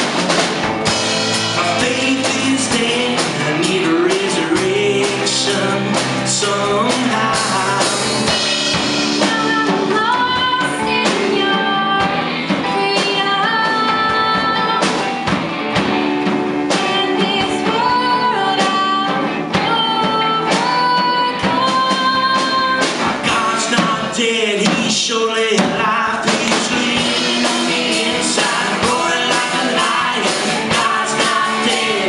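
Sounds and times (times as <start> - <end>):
drum kit beat: 0.0 - 32.0
guitar: 0.0 - 32.0.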